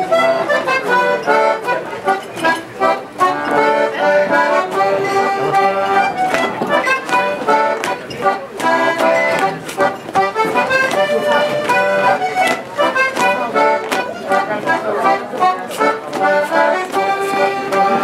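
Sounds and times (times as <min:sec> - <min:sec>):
accordion dance tune: 0:00.0 - 0:18.0.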